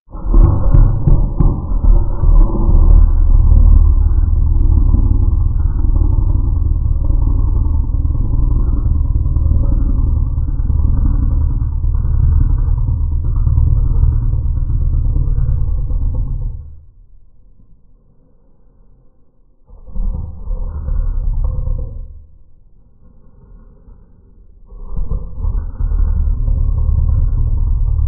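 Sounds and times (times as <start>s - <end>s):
deep rumbling growl: 0.0s - 28.0s.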